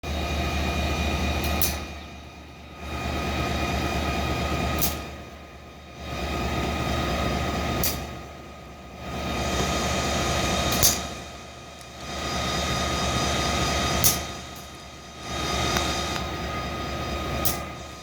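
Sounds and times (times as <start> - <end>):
locomotive engine rumbling: 0.0 - 18.0.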